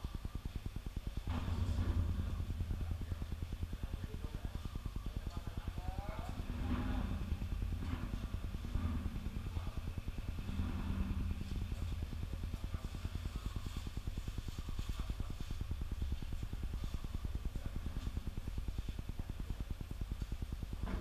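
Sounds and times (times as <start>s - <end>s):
low pulsing machine hum: 0.0s - 21.0s
faint voices: 1.2s - 21.0s.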